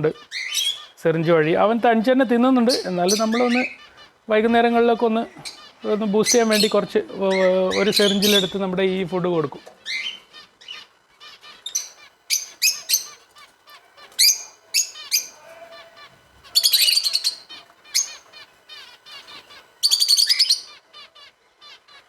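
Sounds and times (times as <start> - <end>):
harsh bird screeching: 0.0 - 1.4, 2.6 - 8.8, 9.4 - 22.0
birds chirping and twittering: 0.0 - 22.0.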